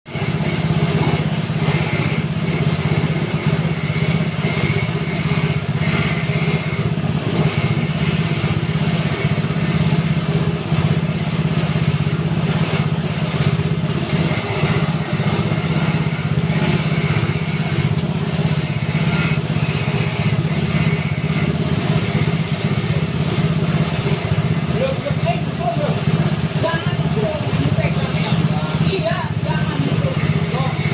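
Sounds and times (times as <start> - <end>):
grinding machine motor hum: 0.0 - 30.9
machine rasping: 0.1 - 30.9.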